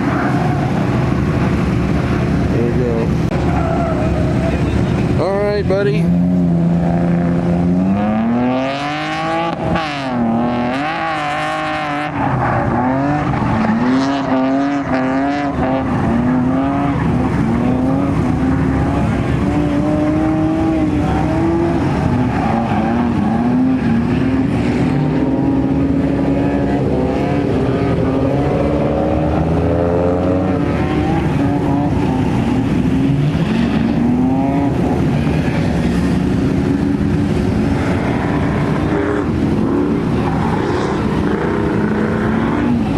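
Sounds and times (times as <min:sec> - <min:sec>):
car engine revving hard: 0:05.9 - 0:42.9.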